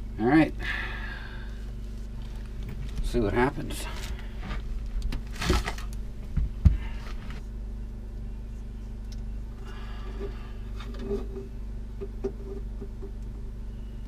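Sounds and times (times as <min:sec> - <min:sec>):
generator humming: 0:00.0 - 0:14.0.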